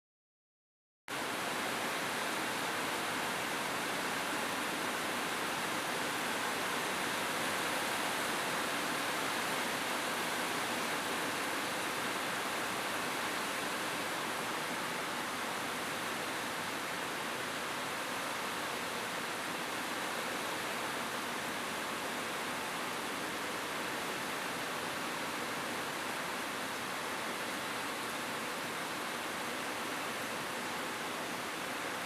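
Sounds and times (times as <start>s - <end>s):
rain falling on a roof: 1.1s - 32.0s.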